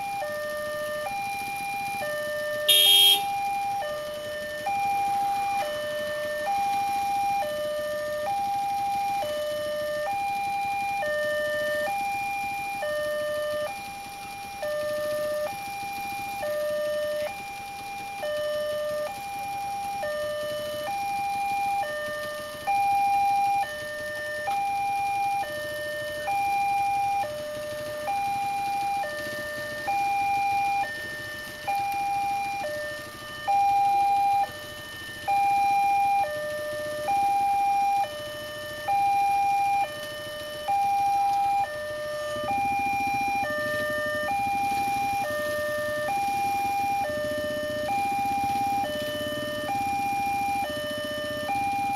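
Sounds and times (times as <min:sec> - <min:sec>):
two-tone level crossing alarm: 0:00.0 - 0:51.9.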